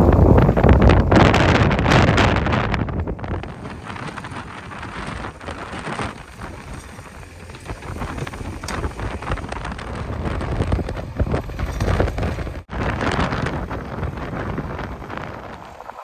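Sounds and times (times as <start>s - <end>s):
diesel engine working: 0.0s - 15.5s
wind noise on microphone: 0.0s - 16.0s
dense irregular crackle: 1.2s - 16.0s.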